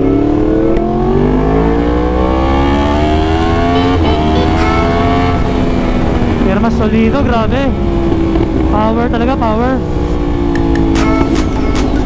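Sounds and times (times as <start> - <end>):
motorcycle engine revving up: 0.0 - 11.7.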